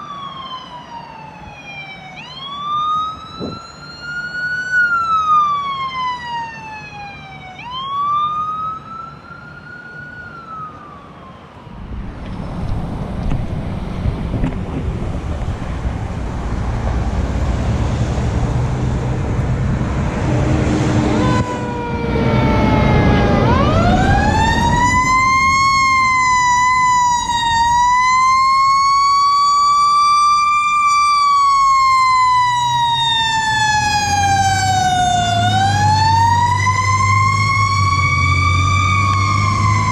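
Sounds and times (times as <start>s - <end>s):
fire truck siren wailing: 0.0s - 39.9s
heavy truck engine rumble: 0.0s - 39.9s
road noise: 0.0s - 39.9s.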